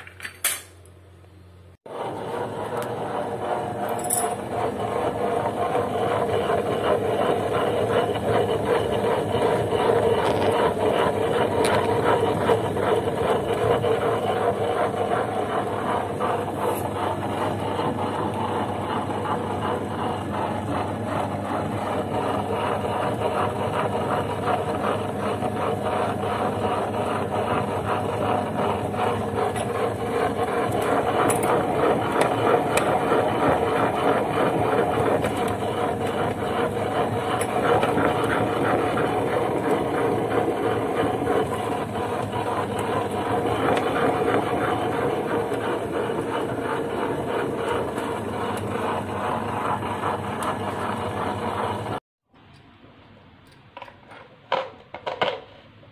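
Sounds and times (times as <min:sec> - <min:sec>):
kitchen appliance motor hum: 0:00.0 - 0:52.0.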